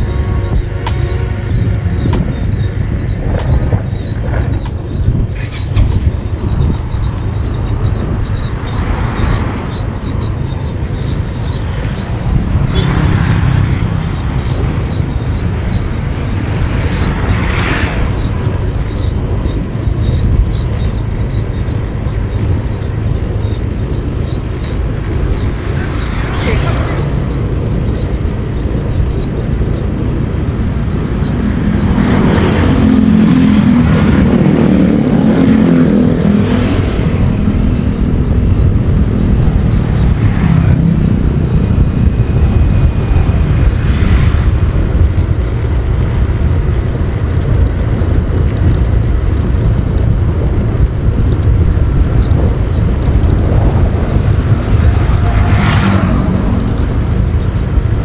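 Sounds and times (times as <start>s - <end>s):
wind and road rush: 0.0s - 58.0s.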